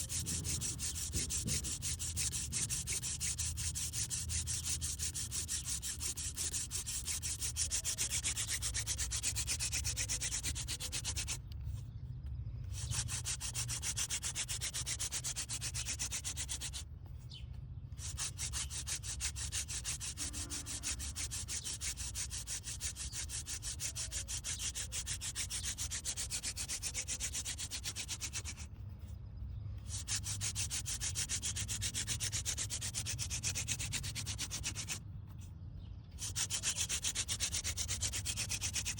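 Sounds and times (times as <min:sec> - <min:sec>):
hand drill grinding scrape: 0:00.0 - 0:11.9, 0:12.6 - 0:28.8, 0:29.8 - 0:35.0, 0:36.1 - 0:38.9.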